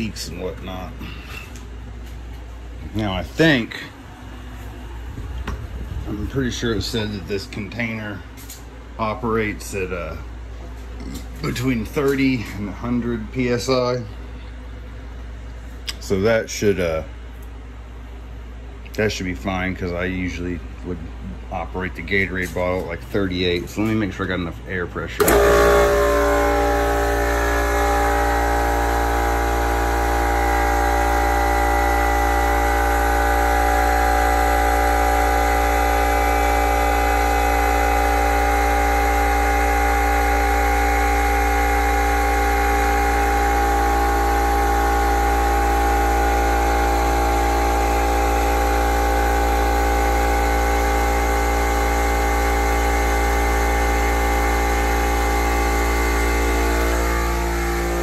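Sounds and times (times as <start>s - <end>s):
air compressor running: 0.0s - 58.0s.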